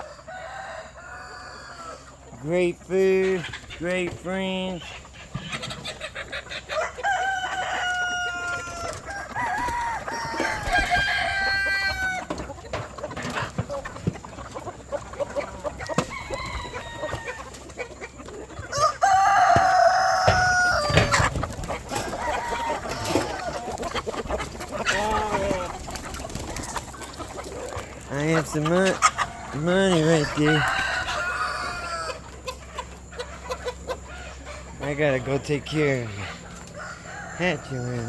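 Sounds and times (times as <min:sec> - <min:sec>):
roosters crowing: 0:00.0 - 0:03.7, 0:04.6 - 0:38.0
chickens clucking: 0:00.0 - 0:38.0.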